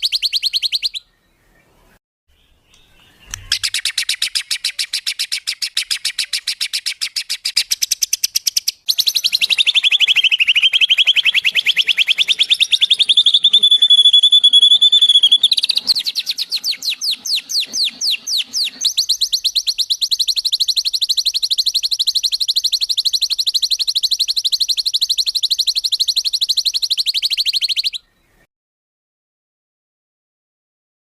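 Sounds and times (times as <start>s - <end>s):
songbird trilling: 0.0s - 1.3s, 2.4s - 28.3s.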